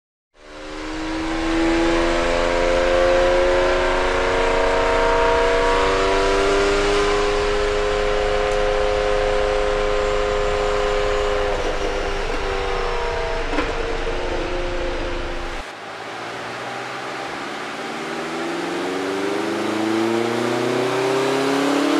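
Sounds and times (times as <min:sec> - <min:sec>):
car engine running on dyno: 0:00.4 - 0:21.9.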